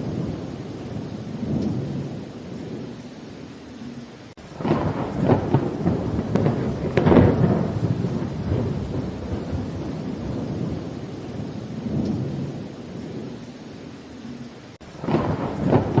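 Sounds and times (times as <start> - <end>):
thunder rumbling and crackling: 0.0 - 3.1, 4.4 - 16.0
steady rainfall: 0.0 - 16.0.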